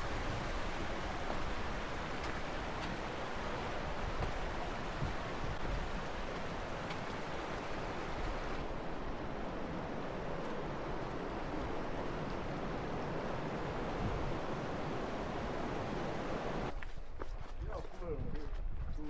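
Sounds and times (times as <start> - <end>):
river water rushing: 0.0 - 16.7.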